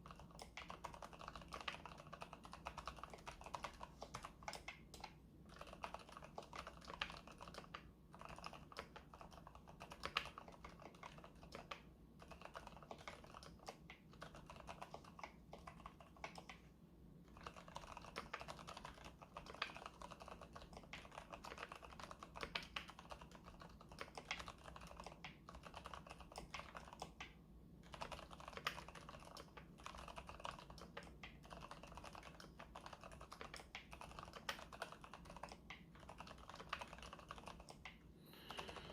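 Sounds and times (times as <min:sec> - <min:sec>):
muted mechanical keyboard typing: 0:00.0 - 0:38.9.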